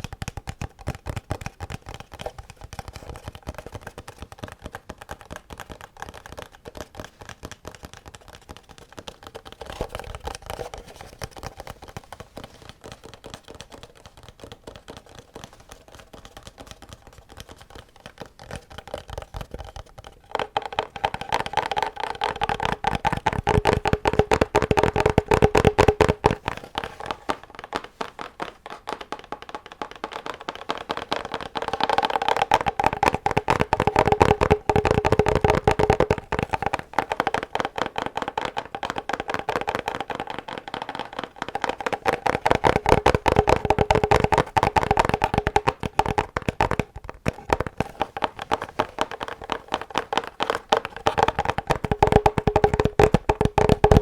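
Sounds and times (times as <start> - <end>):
rapid tapping on hollow object: 0.0 - 54.0.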